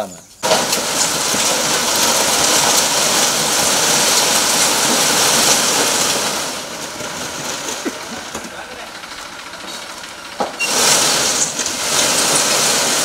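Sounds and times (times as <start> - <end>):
loud steady rushing hiss: 0.3 - 13.0.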